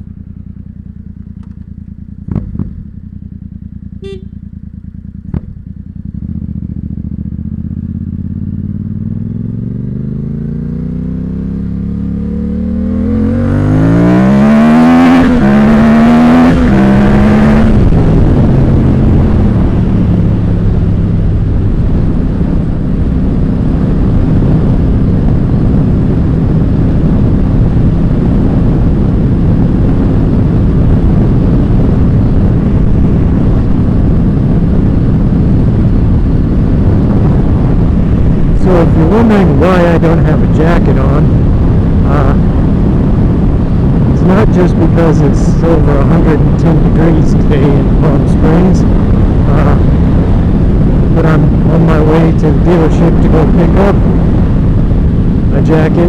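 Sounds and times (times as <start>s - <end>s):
motorcycle engine: 0.0s - 56.0s
rushing wind: 0.0s - 56.0s.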